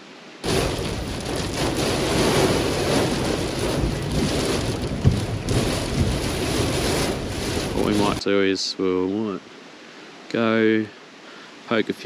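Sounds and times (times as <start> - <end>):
rain and wind on a car roof: 0.0 - 12.0.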